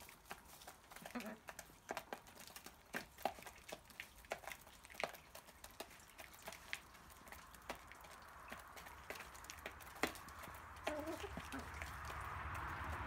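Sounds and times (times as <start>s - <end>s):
beaks pecking food in a dish: 0.0s - 13.0s.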